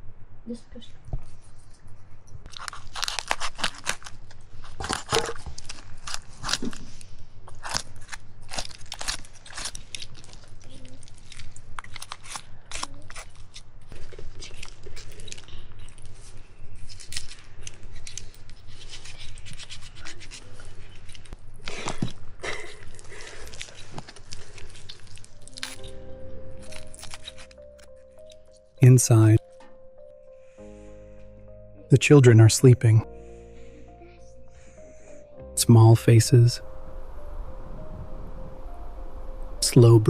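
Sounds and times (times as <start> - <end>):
faint low hum: 0.0 - 40.0.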